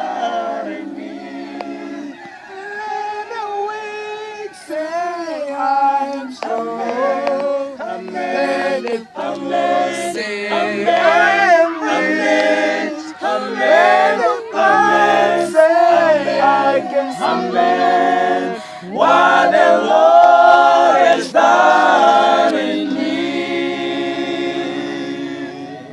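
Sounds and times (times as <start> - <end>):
choir singing a cappella: 0.0 - 25.9.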